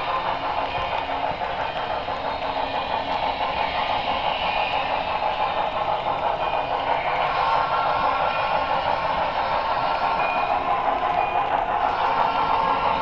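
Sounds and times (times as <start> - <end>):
model train motor humming and rattling: 0.0 - 13.0.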